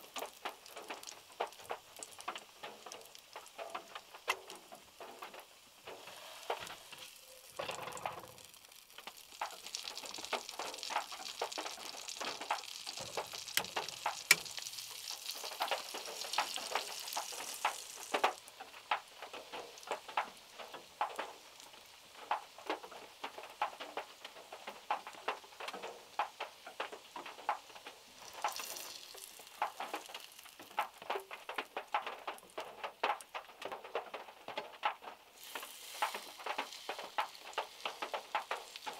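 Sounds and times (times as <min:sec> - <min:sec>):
heavy rain hiss: 0:00.0 - 0:38.9
raindrops pattering on car roof: 0:00.0 - 0:38.9.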